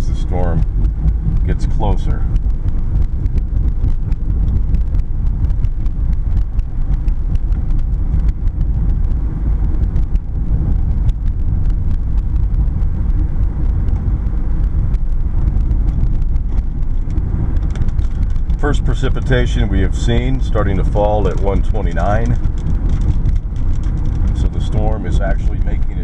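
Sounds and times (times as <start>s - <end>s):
car interior road noise: 0.0s - 26.0s.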